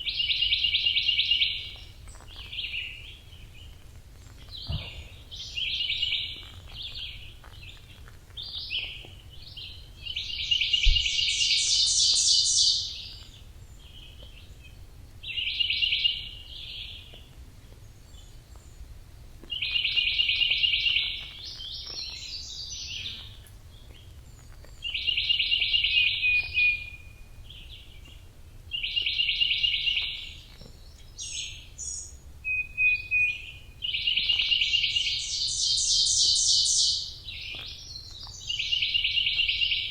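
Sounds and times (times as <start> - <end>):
songbird chattering: 4.3 - 17.2, 19.5 - 39.9.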